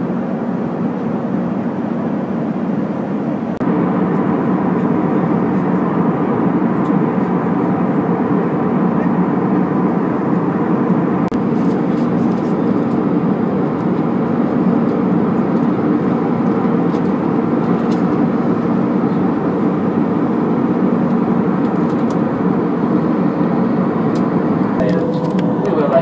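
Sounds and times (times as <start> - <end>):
airliner cabin engine noise: 0.0 - 26.0.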